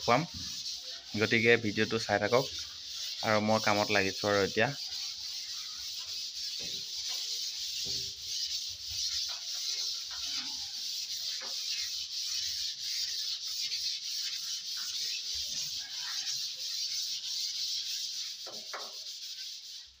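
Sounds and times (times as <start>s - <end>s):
sandpaper rubbing hiss: 0.0s - 20.0s.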